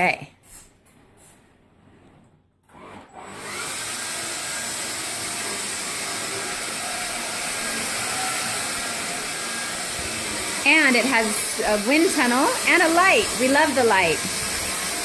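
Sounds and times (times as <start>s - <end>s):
vacuum cleaner motor running: 2.7s - 15.0s.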